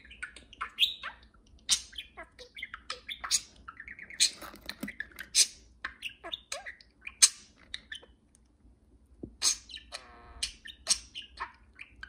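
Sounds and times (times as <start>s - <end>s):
budgerigars chattering: 0.0s - 8.1s, 9.4s - 12.0s.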